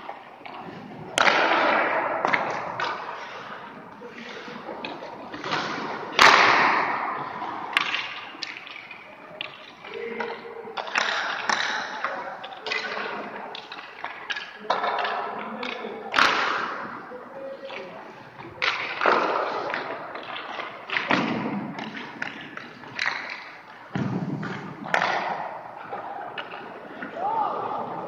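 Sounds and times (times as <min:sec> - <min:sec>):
echoing hockey puck cracks: 0:01.1 - 0:03.5, 0:04.8 - 0:16.9, 0:18.6 - 0:27.8.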